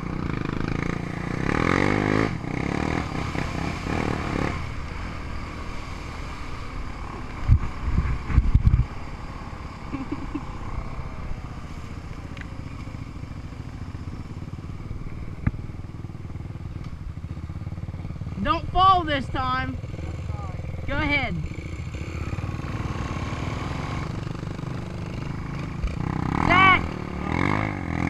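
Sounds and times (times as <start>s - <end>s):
small off-road engine running: 0.0s - 28.0s.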